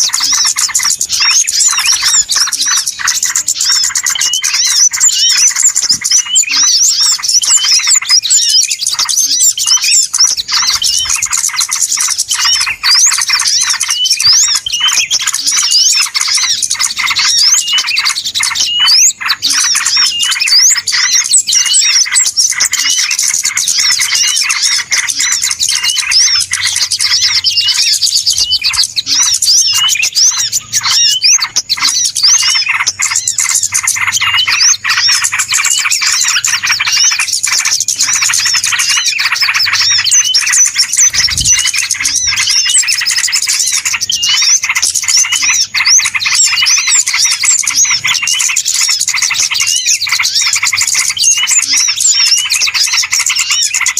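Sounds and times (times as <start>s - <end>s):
many small birds chirping: 0.0s - 53.9s.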